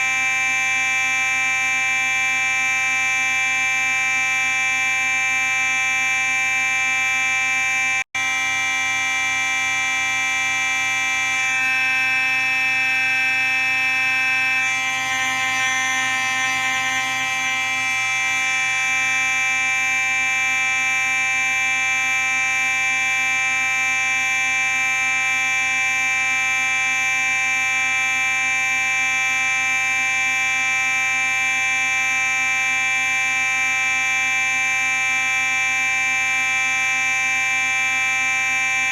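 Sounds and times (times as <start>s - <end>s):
fire alarm steady tone: 0.0s - 38.9s.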